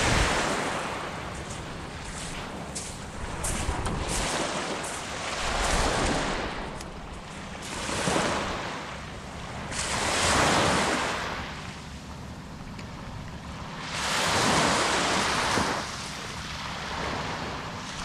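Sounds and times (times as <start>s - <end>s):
small waves breaking on a beach: 0.0s - 18.0s.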